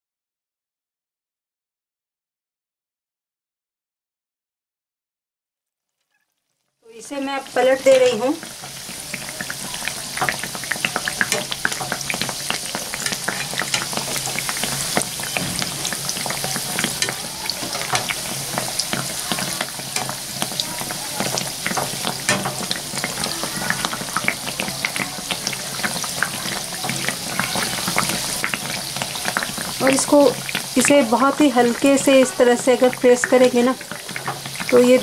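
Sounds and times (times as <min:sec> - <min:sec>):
batter deep-frying in hot oil: 0:05.9 - 0:35.0.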